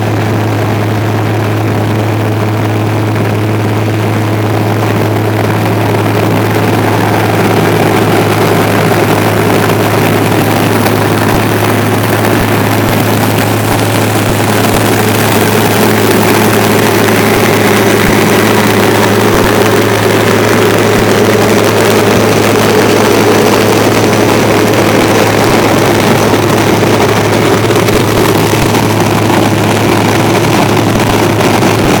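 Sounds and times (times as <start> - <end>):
diesel machinery engine drone: 0.0 - 32.0.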